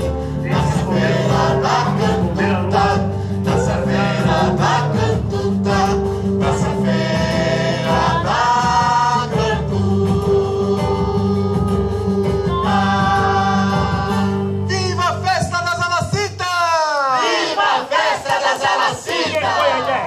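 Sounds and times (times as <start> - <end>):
choir singing held notes: 0.0 - 14.7, 17.2 - 20.0
low musical accompaniment: 0.0 - 16.4.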